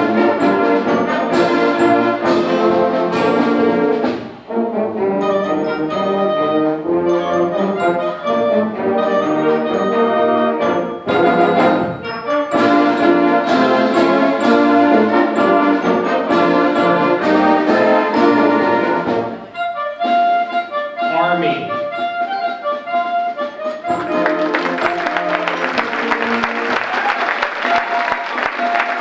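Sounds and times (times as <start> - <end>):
symphonic band playing: 0.0 - 29.0.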